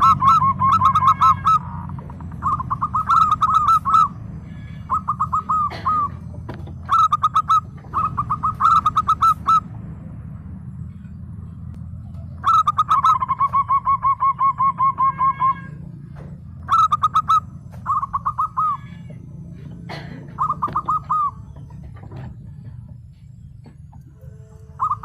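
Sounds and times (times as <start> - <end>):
dove cooing: 0.0 - 9.8, 12.0 - 23.0, 23.6 - 25.0
steady low hum: 0.0 - 25.0.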